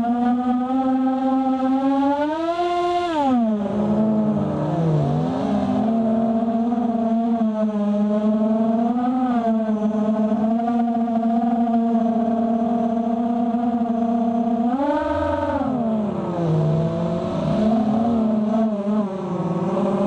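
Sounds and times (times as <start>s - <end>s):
drone motors and propellers whining: 0.0s - 20.0s.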